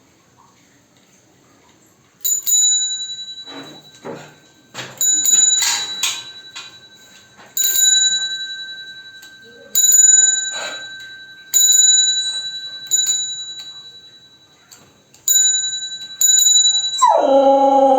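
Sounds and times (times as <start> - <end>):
bicycle bell ringing: 2.2 - 17.9.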